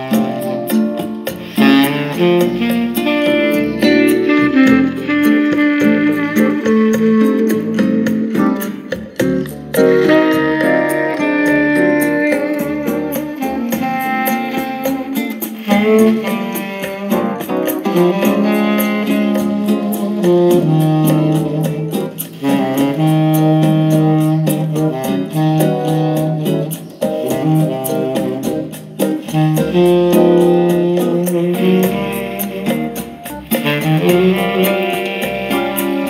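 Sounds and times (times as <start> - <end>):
instrumental music from speakers: 0.0 - 36.0.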